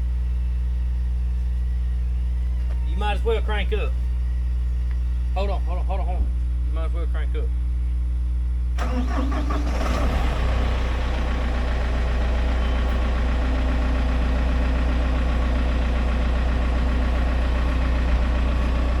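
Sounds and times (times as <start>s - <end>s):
low engine hum: 0.0s - 19.0s
tractor engine cranking and idling: 0.0s - 19.0s.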